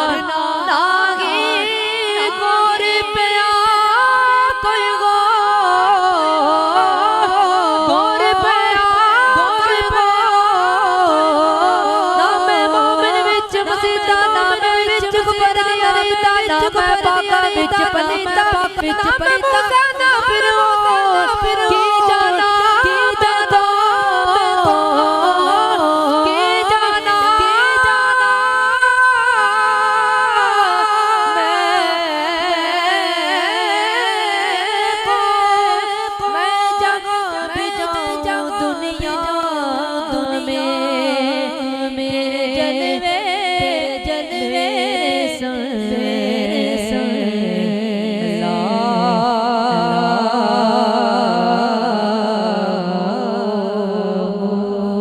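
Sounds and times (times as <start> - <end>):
devotional singing with vibrato: 0.0 - 55.0.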